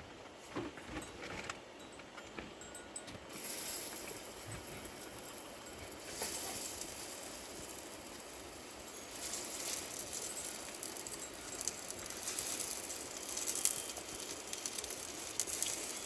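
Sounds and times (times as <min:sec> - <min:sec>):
light clicking and rattling: 0:00.1 - 0:16.0
steady hiss: 0:01.8 - 0:16.0.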